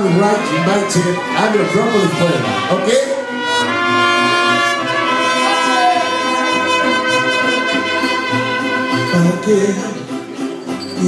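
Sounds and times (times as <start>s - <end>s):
trumpets holding long notes: 0.0s - 10.0s
mariachi band playing: 0.0s - 11.0s.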